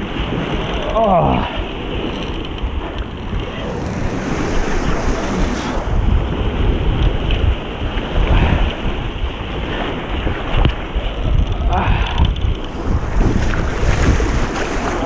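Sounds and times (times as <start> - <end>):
surf washing up beach: 0.0 - 15.0
wind buffeting microphone: 0.0 - 15.0.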